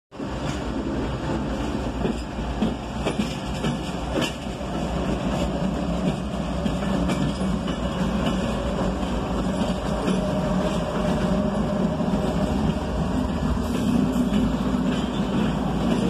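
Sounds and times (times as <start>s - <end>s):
diesel locomotive engine rumble: 0.2s - 16.0s.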